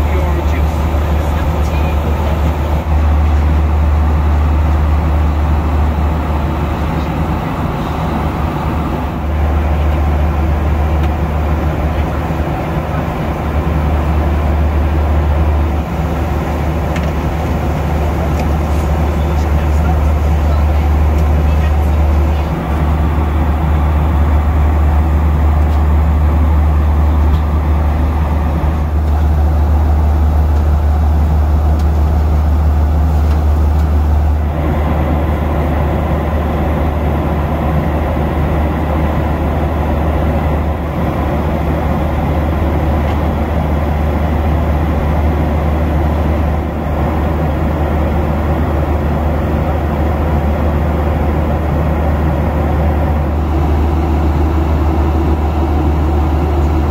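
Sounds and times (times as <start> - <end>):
airplane cabin rumble: 0.0 - 56.9.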